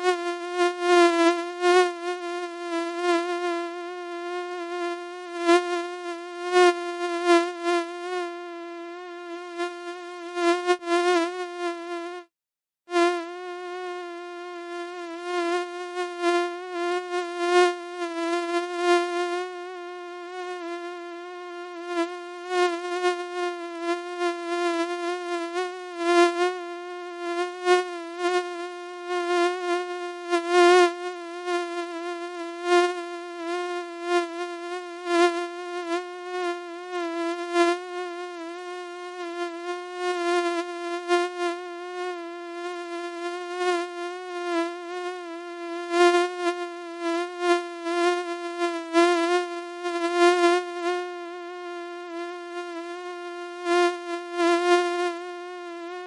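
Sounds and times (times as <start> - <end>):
mosquito buzzing: 0.0 - 12.3, 12.9 - 56.0.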